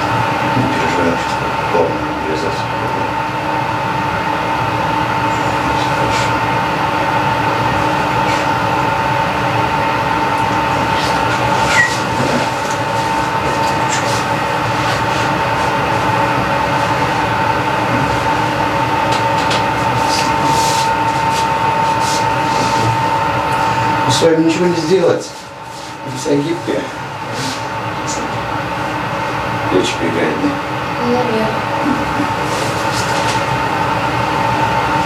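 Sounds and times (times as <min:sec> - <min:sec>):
constant high whine: 0:00.0 - 0:35.0
steady mechanical hum: 0:00.0 - 0:35.0.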